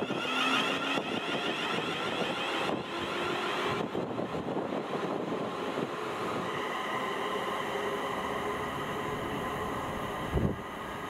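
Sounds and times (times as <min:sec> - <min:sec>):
train rushing rumble: 0:00.0 - 0:11.0.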